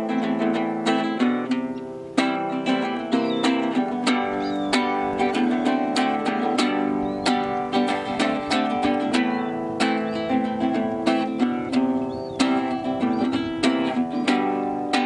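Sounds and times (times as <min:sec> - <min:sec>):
classical guitar strumming: 0:00.0 - 0:15.0.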